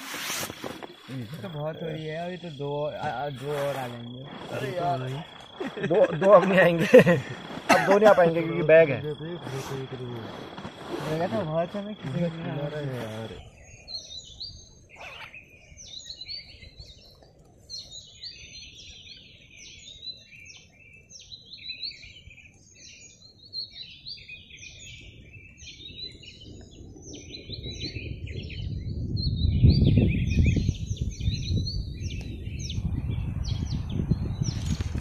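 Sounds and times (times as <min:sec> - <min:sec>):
birds chirping and singing: 0:00.0 - 0:35.0.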